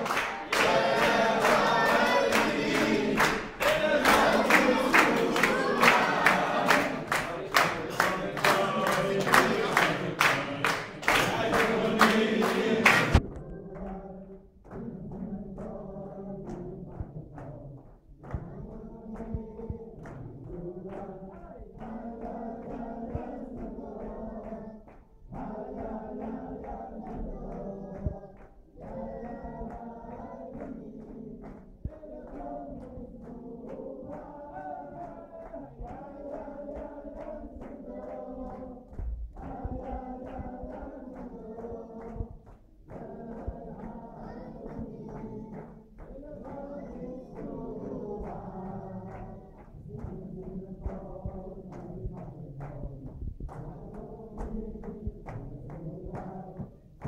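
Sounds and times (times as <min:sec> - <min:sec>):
men singing together: 0:00.0 - 0:17.6, 0:18.2 - 0:56.9
clapping on the beat: 0:00.0 - 0:57.0.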